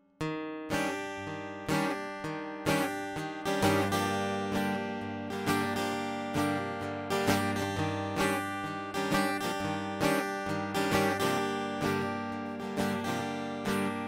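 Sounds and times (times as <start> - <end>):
acoustic guitar strumming chords: 0.2 - 14.0.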